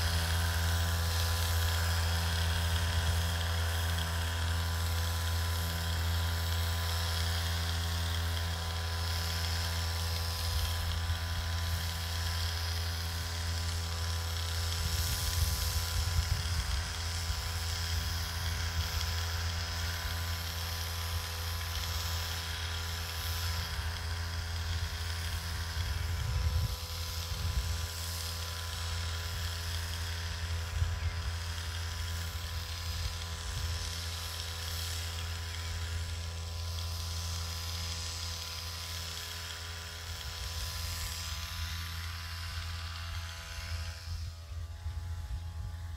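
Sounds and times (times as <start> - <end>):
small motor humming: 0.0 - 45.9.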